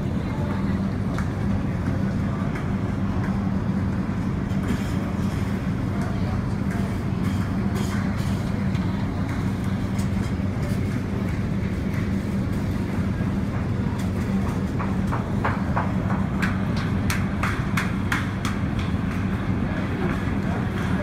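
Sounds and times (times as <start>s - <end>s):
low mechanical hum of machinery: 0.0s - 21.0s.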